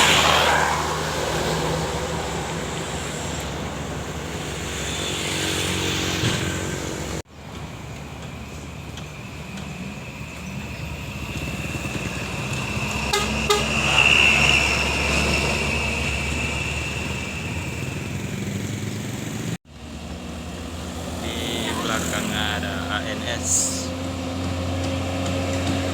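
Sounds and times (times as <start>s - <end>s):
bus passing by: 0.0s - 25.9s.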